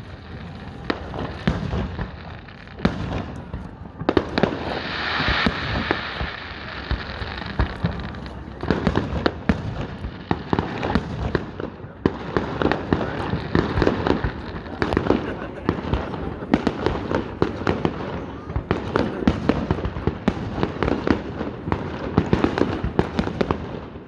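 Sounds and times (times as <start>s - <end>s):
firework hissing burst: 0.0s - 21.7s
firework cracks and pops: 0.0s - 24.0s.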